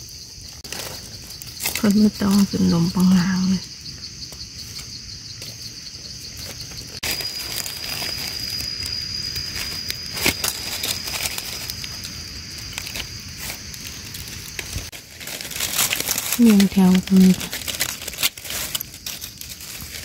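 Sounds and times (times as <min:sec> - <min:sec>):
insects singing: 0:00.0 - 0:20.0.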